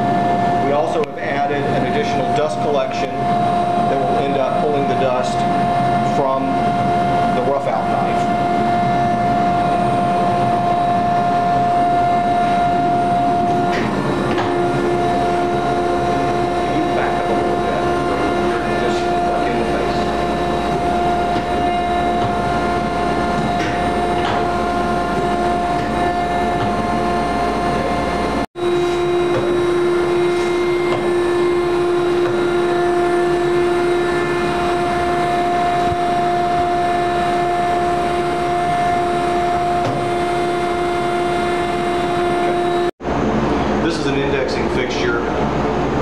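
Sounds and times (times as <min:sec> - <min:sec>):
lathe machinery drone and whine: 0:00.0 - 0:46.0.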